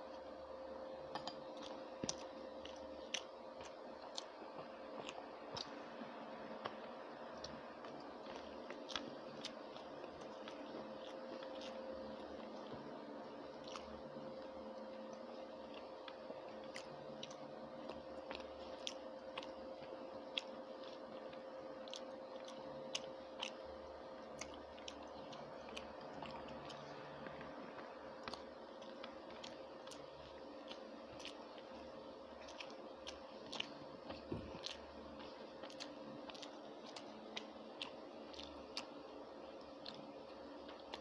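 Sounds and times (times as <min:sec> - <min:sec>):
low steady hum: 0:00.0 - 0:41.0
person chewing with wet clicks: 0:00.0 - 0:41.0.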